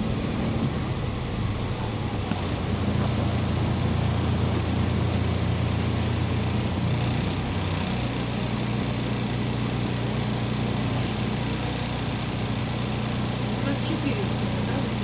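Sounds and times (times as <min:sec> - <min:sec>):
bus diesel engine humming: 0:00.0 - 0:15.0.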